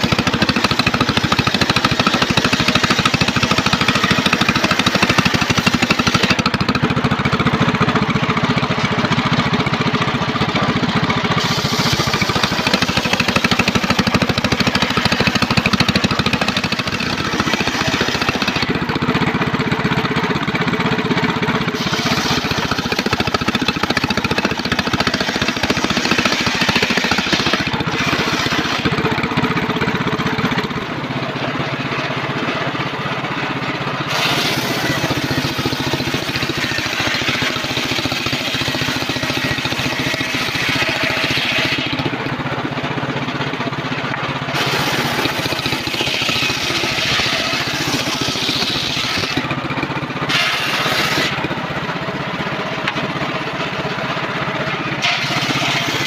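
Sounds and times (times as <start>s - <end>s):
saw blade cutting wood: 0.0s - 20.5s, 21.5s - 32.1s, 34.0s - 42.8s, 44.1s - 51.8s, 54.6s - 56.0s
engine running: 0.0s - 56.0s.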